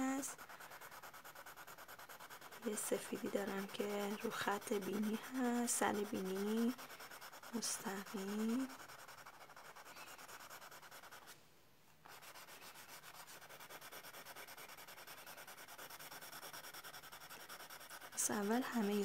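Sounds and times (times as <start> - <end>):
crayon scratching on paper: 0.0 - 11.4, 12.0 - 19.0.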